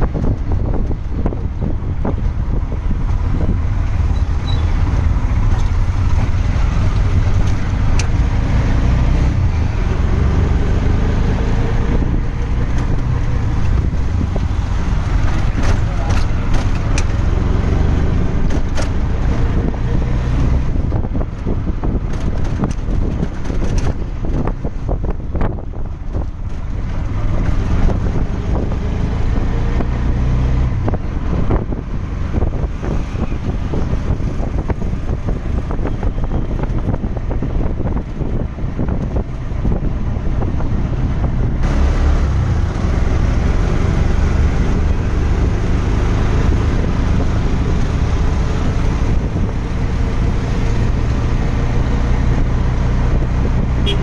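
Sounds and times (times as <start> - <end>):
road and traffic rumble: 0.0 - 54.0
wind buffeting microphone: 0.0 - 54.0.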